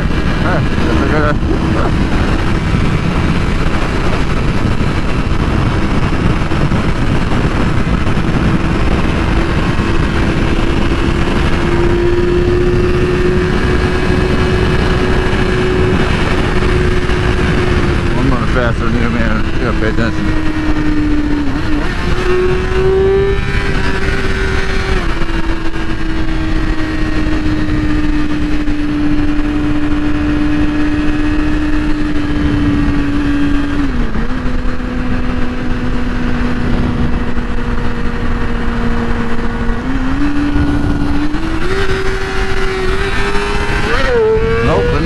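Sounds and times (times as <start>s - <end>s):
motorcycle engine cruising: 0.0s - 45.0s
wind and road rush: 0.0s - 45.0s.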